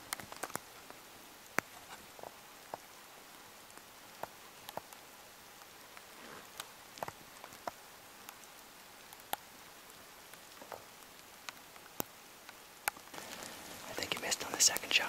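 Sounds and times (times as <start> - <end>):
light rain hissing on boughs: 0.0 - 15.0
sharp raindrop ticks: 0.0 - 15.0.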